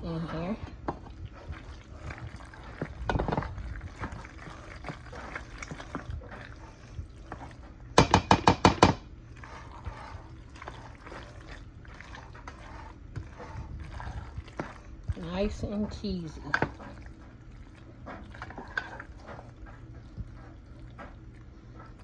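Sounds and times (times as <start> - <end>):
spoon stirring sticky food: 0.1 - 22.0.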